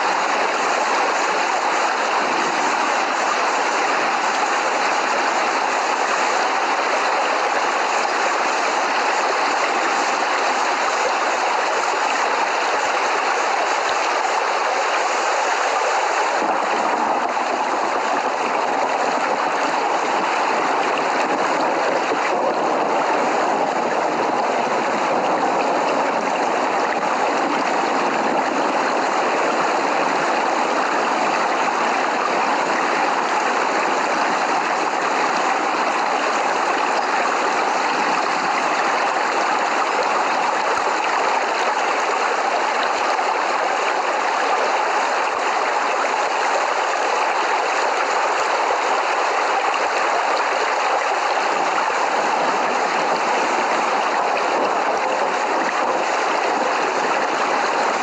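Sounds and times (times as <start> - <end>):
steady rain falling: 0.0 - 22.2, 22.8 - 58.0.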